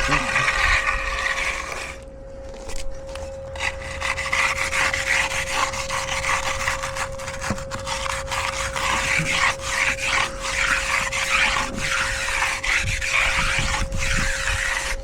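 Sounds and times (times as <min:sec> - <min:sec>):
tool scraping over concrete: 0:00.0 - 0:15.0.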